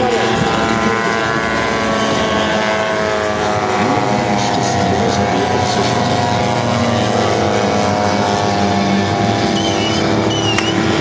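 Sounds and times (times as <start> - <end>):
model aircraft engines running: 0.0 - 11.0.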